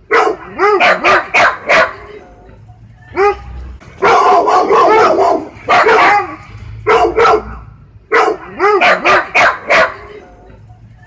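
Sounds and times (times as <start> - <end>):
pack of dogs barking: 0.0 - 2.2, 3.1 - 10.2.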